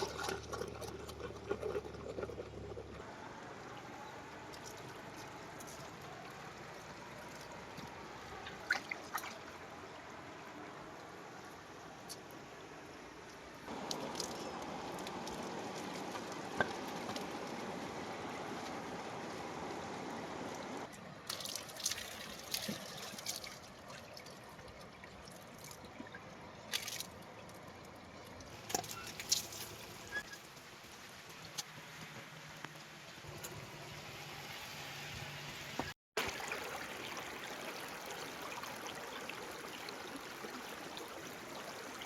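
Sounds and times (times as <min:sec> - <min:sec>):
water splashes: 0:00.0 - 0:42.0.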